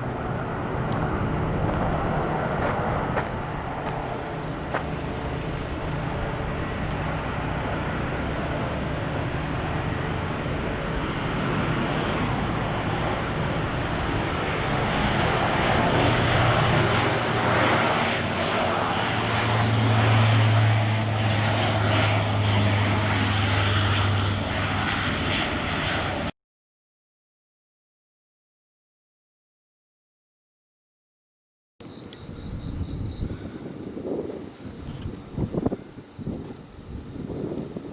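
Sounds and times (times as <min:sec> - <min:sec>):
turboprop engines running: 0:00.0 - 0:26.3, 0:31.8 - 0:37.9.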